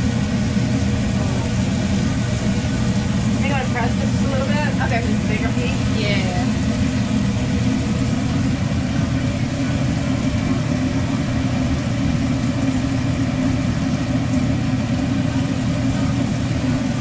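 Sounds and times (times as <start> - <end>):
kitchen equipment drone: 0.0 - 17.0.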